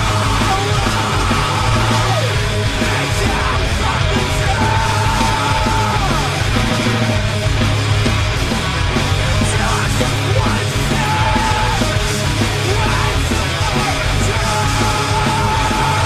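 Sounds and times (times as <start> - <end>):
heavy instrumental rock music: 0.0 - 16.0
low bass: 0.0 - 16.0.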